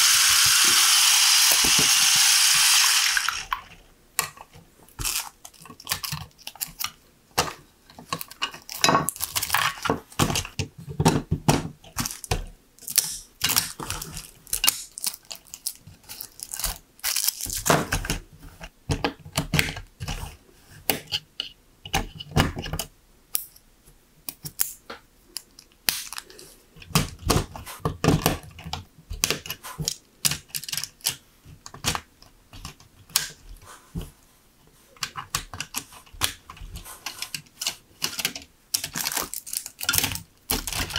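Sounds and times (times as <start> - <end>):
plastic pieces clicking and snapping: 0.2 - 18.2, 24.2 - 33.4, 35.0 - 40.9.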